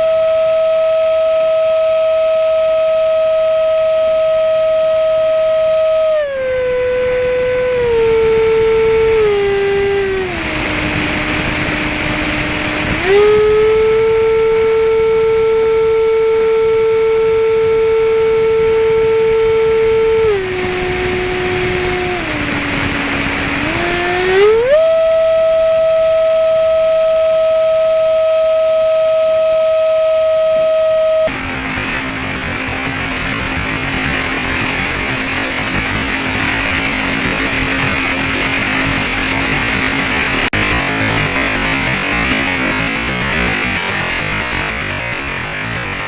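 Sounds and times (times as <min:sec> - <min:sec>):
electric fan motor whining: 0:00.0 - 0:46.0.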